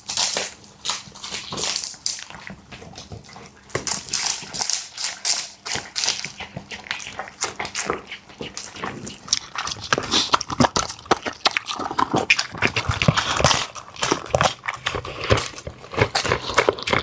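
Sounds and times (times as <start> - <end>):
dog chewing food: 0.0 - 17.0.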